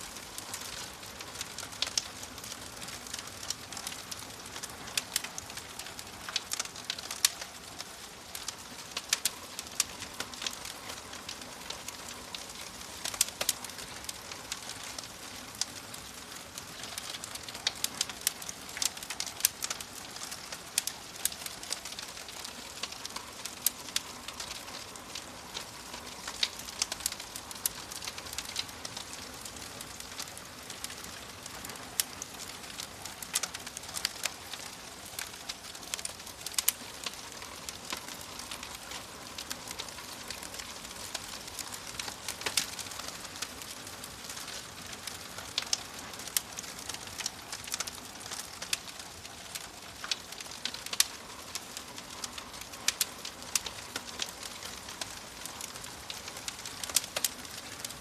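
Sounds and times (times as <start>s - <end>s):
steady hiss: 0.0s - 58.0s
wood fire crackling: 0.0s - 58.0s.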